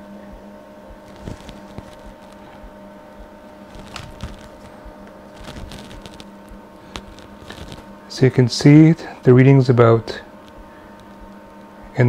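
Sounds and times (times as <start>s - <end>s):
computer fans whirring: 0.0s - 12.0s.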